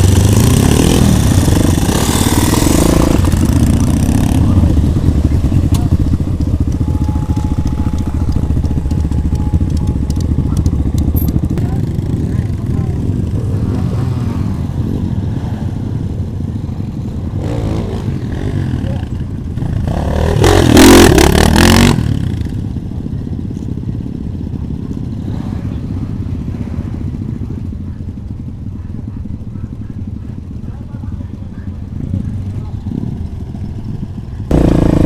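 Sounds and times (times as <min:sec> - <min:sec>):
motorcycle engine revving: 0:00.0 - 0:35.0
motorcycle engines running: 0:00.0 - 0:35.0.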